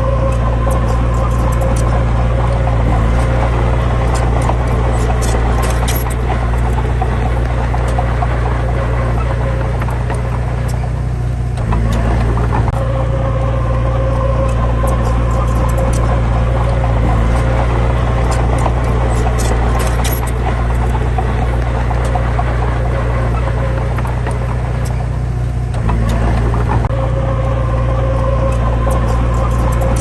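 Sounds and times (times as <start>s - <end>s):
sharp ticks and clanks: 0.0s - 27.0s, 28.2s - 30.0s
diesel engine droning: 0.0s - 30.0s.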